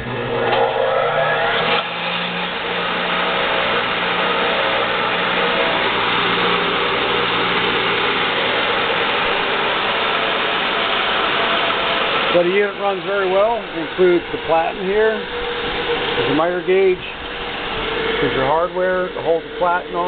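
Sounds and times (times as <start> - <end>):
disc sander motor whirring: 0.0 - 20.0.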